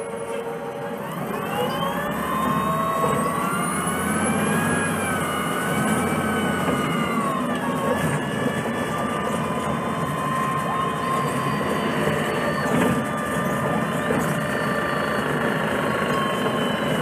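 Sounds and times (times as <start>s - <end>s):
bus engine running: 0.0s - 17.0s
bus transmission whine: 0.0s - 17.0s.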